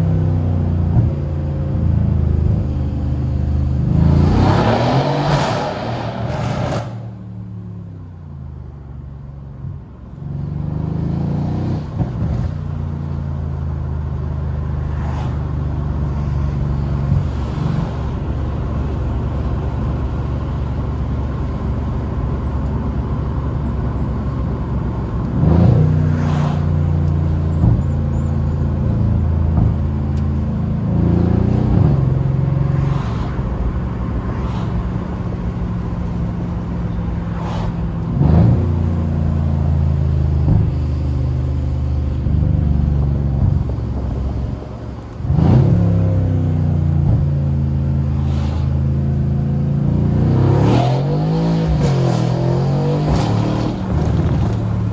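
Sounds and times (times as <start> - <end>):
car engine droning while driving: 0.0 - 54.9.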